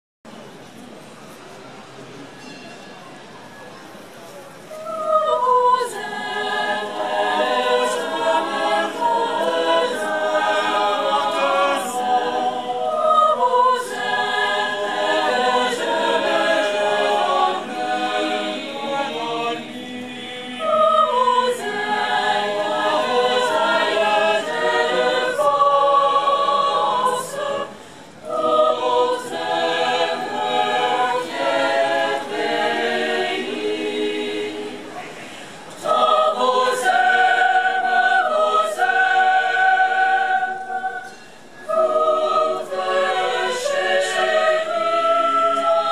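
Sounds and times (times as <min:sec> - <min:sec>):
mixed choir singing a cappella: 0:04.7 - 0:45.9.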